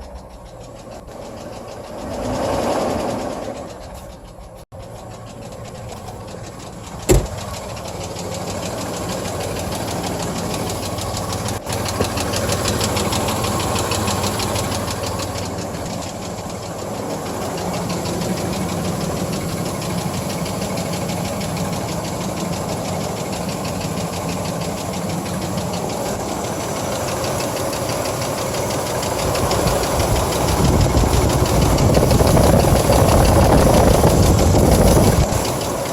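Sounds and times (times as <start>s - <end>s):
car engine running: 0.0s - 35.9s
engine ticking-knocking noise: 0.0s - 35.9s.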